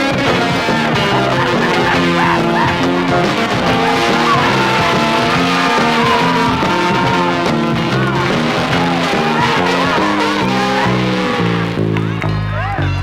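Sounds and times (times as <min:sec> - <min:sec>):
gliding lead guitar line: 0:00.0 - 0:12.5
rock band playing: 0:00.0 - 0:13.0.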